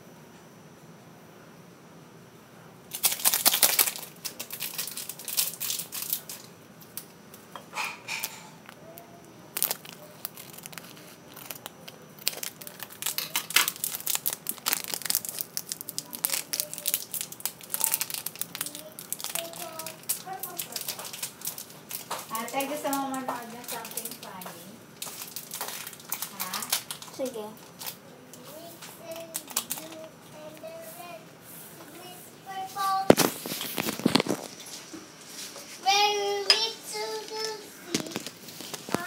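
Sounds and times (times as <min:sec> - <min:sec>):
foil sachets crinkling: 0:02.9 - 0:30.7, 0:32.8 - 0:34.7, 0:37.0 - 0:39.0.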